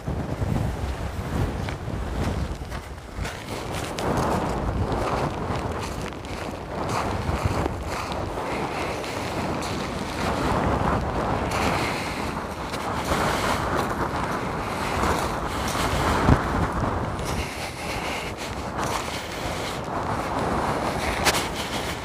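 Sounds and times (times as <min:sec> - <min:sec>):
wind buffeting the microphone: 0:00.0 - 0:22.0.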